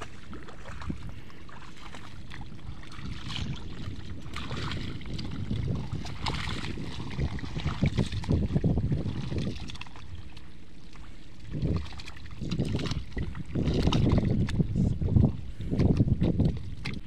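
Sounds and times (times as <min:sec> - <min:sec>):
mud and water sloshing: 0:00.0 - 0:17.0.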